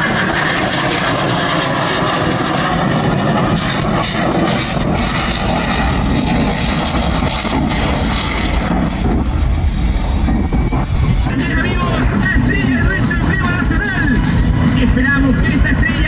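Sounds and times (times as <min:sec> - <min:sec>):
aircraft engine flying past: 0:00.0 - 0:16.0.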